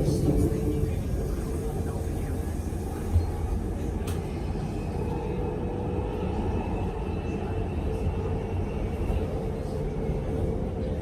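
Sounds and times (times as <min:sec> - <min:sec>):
electric train interior rumble: 0:00.0 - 0:11.0.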